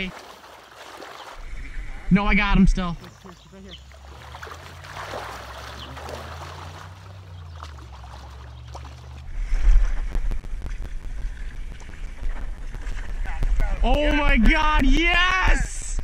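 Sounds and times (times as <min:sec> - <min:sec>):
water splashing and sloshing: 0:00.0 - 0:13.5
heavy low rumble: 0:01.4 - 0:14.9.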